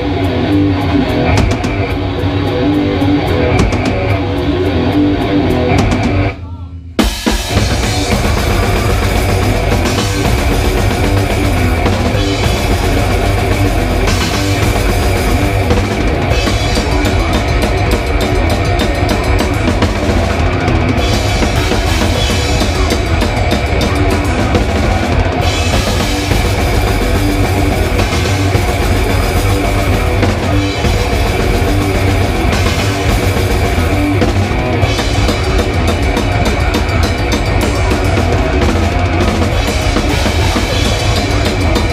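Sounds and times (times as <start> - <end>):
drum kit: 0.0 - 41.9
rock band playing: 0.0 - 41.9.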